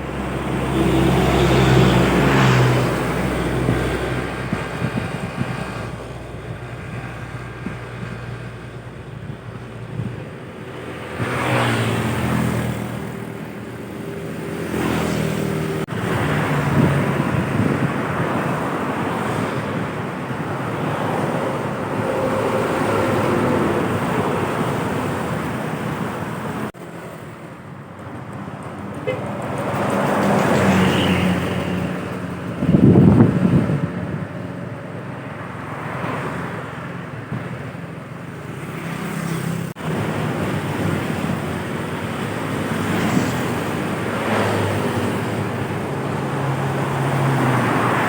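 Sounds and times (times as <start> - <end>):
trucks and buses passing: 0.0 - 48.0.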